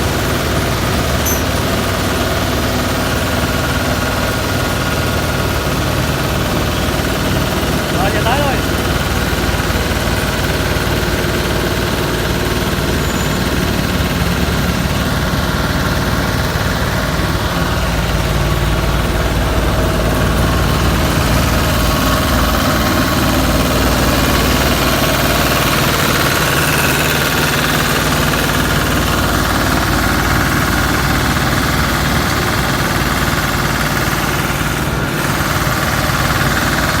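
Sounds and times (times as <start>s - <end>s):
concrete saw engine running: 0.0s - 37.0s.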